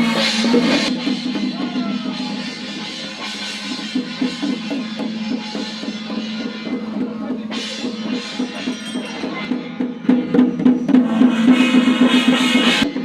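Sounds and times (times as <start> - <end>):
cymbals crashing: 0.0 - 13.0
drums beating fast rhythm: 0.0 - 13.0.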